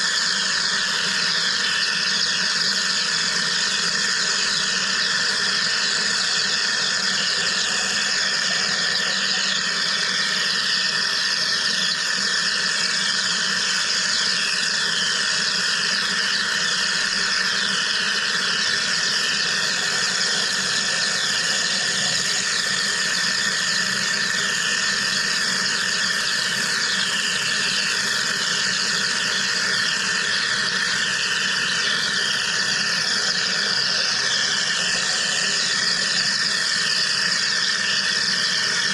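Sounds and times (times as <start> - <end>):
machine hissing and whining: 0.0 - 38.9.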